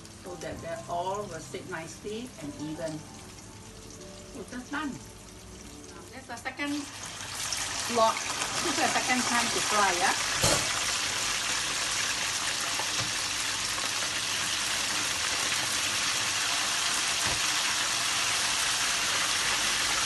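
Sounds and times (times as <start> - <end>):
chicken wings deep-frying in oil: 0.0 - 20.0.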